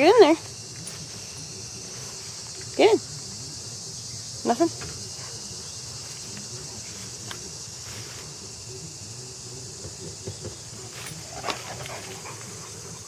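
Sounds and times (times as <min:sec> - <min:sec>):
faint rustles: 0:00.0 - 0:03.5, 0:04.7 - 0:13.0
high-pitched insect chorus: 0:00.0 - 0:13.0.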